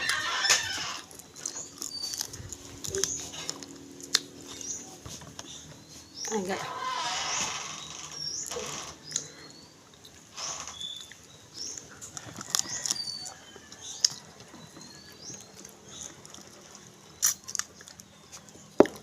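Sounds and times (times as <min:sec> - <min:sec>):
chewing with small cracks: 0:00.0 - 0:06.5, 0:07.8 - 0:19.0.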